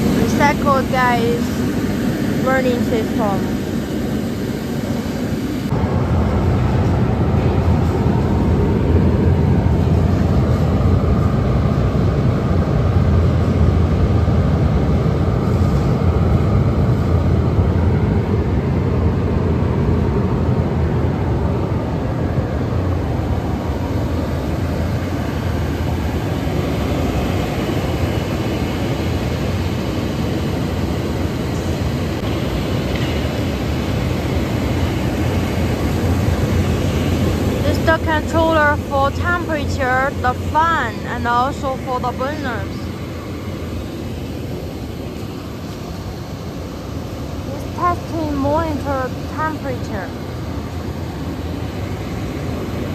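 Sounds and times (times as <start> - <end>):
diesel burner roaring: 0.0 - 52.9.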